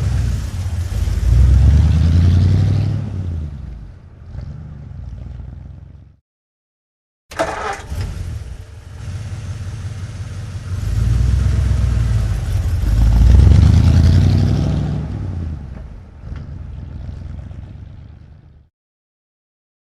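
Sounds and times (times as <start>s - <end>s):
truck engine revving and idling: 0.0s - 6.2s, 7.4s - 18.7s.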